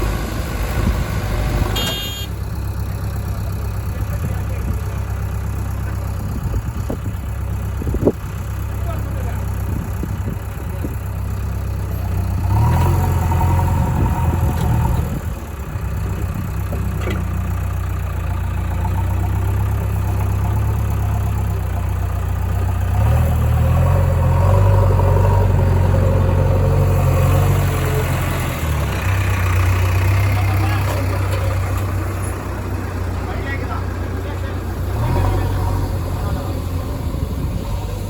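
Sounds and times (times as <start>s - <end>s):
diesel engine idling and revving: 0.0s - 38.0s.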